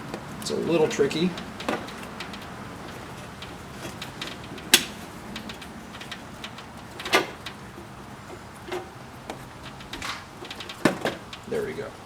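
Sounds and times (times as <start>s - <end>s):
light taps: 0.0s - 11.9s.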